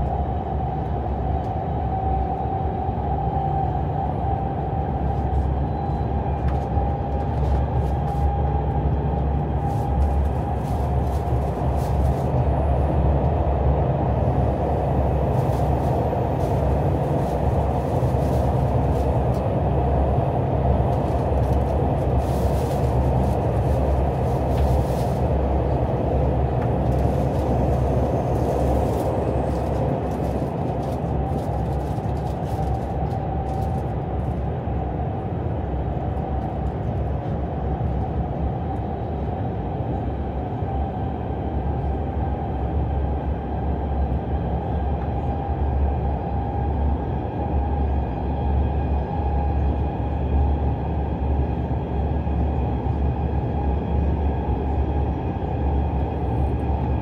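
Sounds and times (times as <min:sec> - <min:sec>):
low rumble of train wheels: 0:00.0 - 0:57.0.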